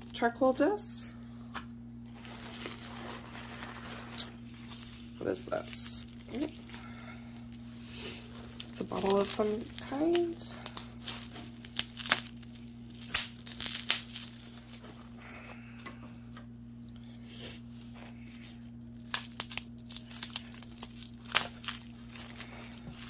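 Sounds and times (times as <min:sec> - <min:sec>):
bubble wrap crinkling: 0:02.0 - 0:15.6, 0:17.8 - 0:23.0.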